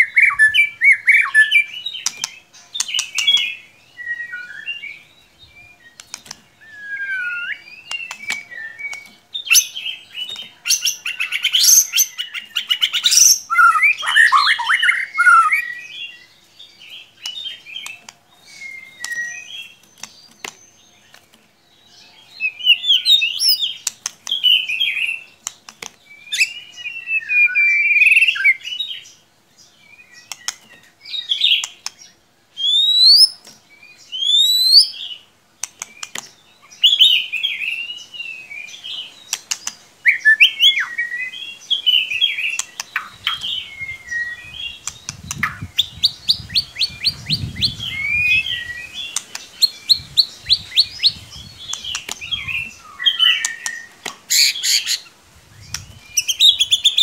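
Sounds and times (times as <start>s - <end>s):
songbird whistling song: 0.0s - 57.0s.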